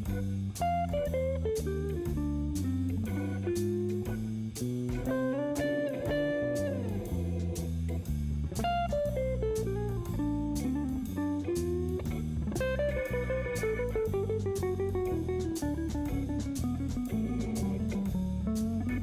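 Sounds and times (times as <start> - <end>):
bluesy guitar music: 0.0 - 19.0.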